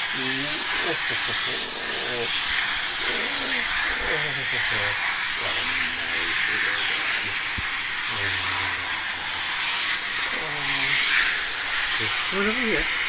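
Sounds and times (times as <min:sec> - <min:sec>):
vacuum cleaner hissing: 0:00.0 - 0:13.0.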